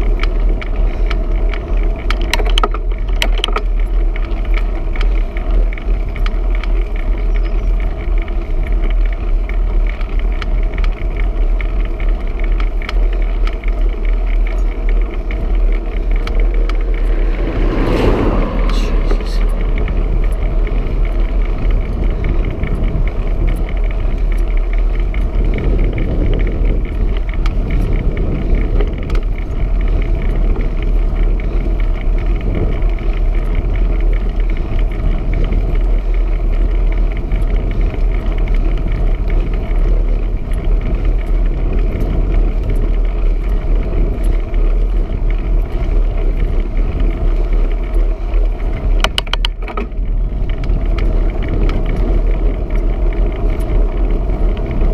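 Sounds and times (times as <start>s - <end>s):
bicycle road noise: 0.0s - 54.9s
wind rumbling on microphone: 0.0s - 54.9s.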